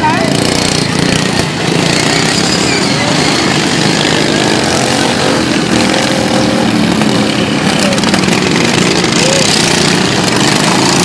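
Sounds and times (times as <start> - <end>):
lawn mower engines racing: 0.0 - 11.0.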